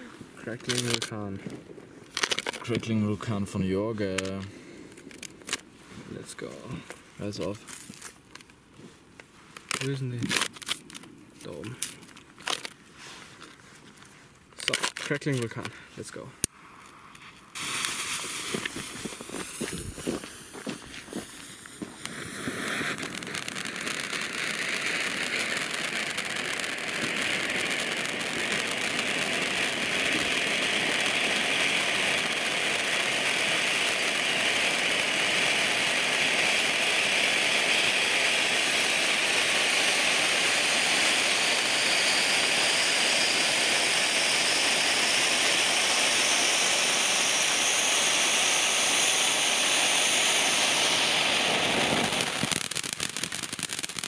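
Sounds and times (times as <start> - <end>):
firework fountain hissing and crackling: 0.0 - 8.5, 14.6 - 54.0.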